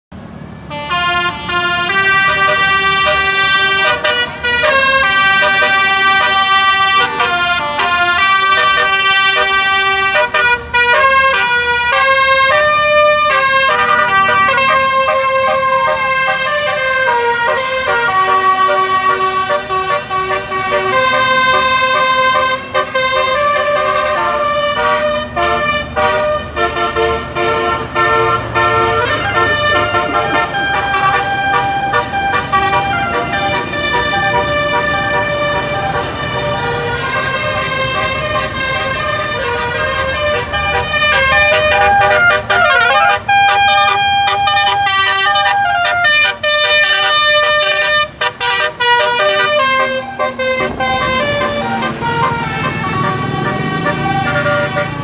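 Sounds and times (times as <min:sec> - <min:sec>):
multi-tone bus horn melody: 0:00.2 - 0:55.0.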